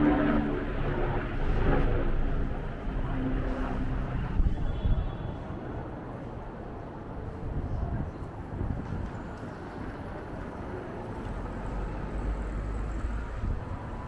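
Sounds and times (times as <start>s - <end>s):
wind buffeting microphone: 0.0s - 10.2s, 12.2s - 14.0s
city street traffic: 0.0s - 14.0s.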